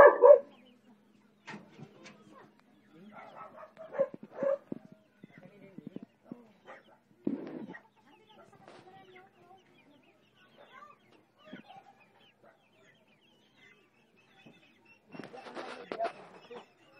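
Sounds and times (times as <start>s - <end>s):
chicks peeping: 0.0s - 16.9s.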